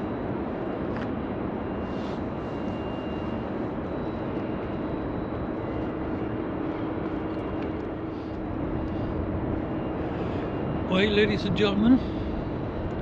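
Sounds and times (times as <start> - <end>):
faint hum: 0.0 - 13.0
outdoor background rumble: 0.0 - 13.0.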